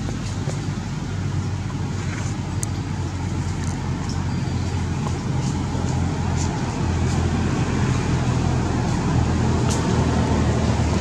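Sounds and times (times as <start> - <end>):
low motor rumble: 0.0 - 11.0.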